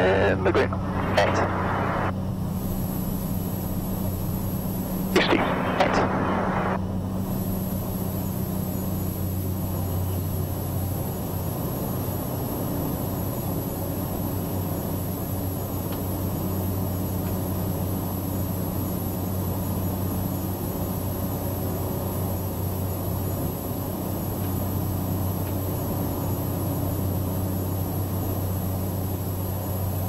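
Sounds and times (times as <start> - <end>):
high turbine whine: 0.0 - 30.0
turboprop engine drone: 0.0 - 30.0.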